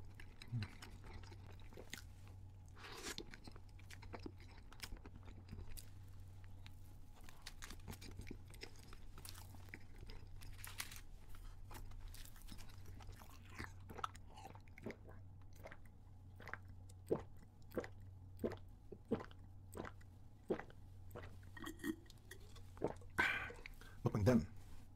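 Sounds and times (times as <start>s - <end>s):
moist chewing: 0.0s - 23.8s.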